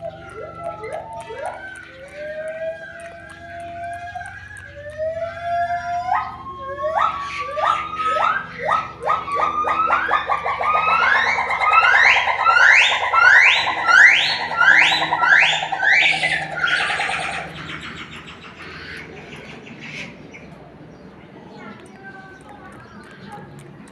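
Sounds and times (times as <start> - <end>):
monkey whooping call: 0.0 - 20.2.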